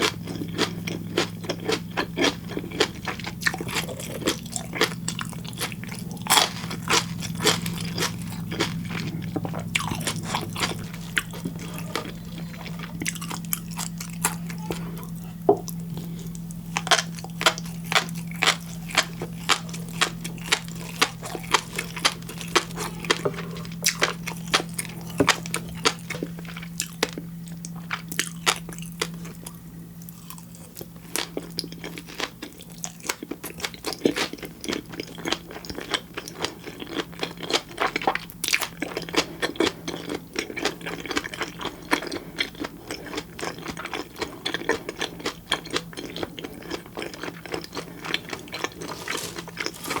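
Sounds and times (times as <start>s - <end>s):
chewing crisp fish roe: 0.0s - 50.0s
steady low hum: 0.0s - 50.0s.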